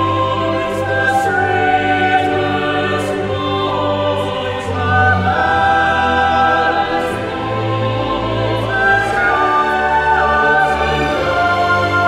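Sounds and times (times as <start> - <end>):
choir singing sustained chords: 0.0 - 12.0
orchestra accompaniment: 0.0 - 12.0.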